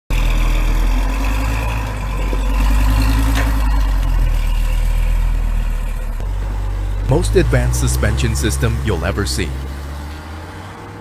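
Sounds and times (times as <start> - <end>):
truck engine rumbling: 0.1 - 10.5.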